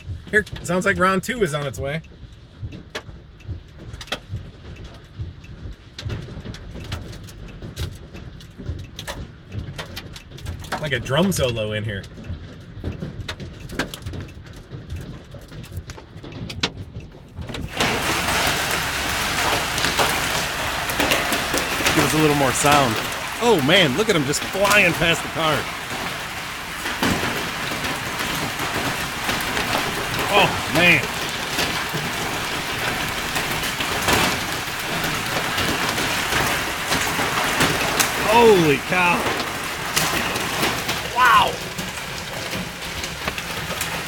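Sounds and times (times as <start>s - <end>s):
hail striking a car: 0.0s - 44.0s
rain on a car: 0.0s - 44.0s.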